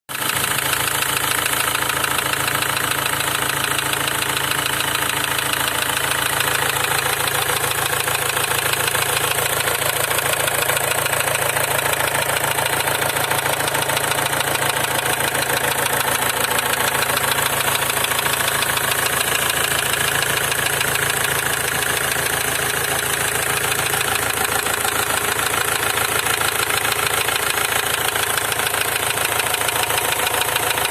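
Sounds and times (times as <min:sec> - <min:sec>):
diesel engine idling with knock: 0:00.1 - 0:30.9.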